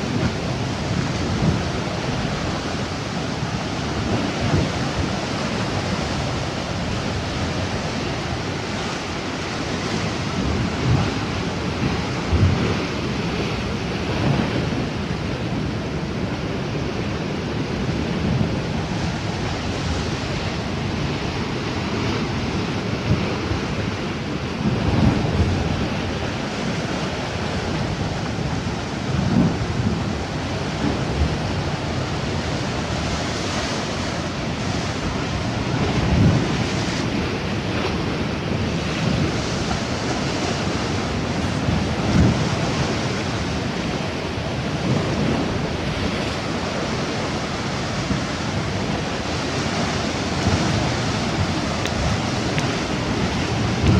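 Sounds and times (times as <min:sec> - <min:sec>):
sea waves washing in: 0:00.0 - 0:53.9
wind buffeting microphone: 0:00.0 - 0:53.9.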